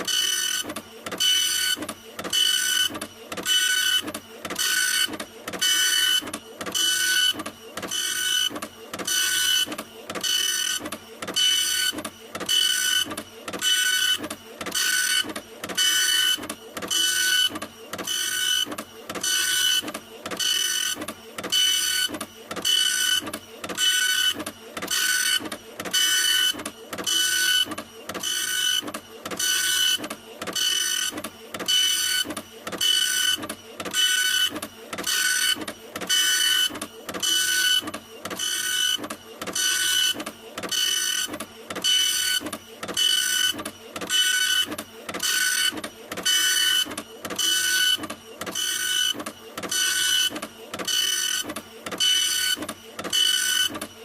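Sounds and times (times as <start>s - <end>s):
printer mechanism whirring: 0.0s - 54.0s.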